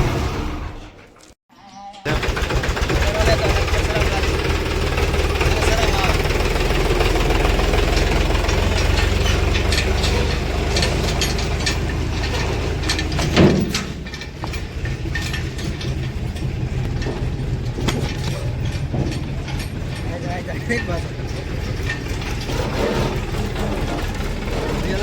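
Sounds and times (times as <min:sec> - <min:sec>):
diesel engine running: 0:00.0 - 0:01.1, 0:02.1 - 0:25.0
metallic clicking and clanking: 0:02.1 - 0:25.0.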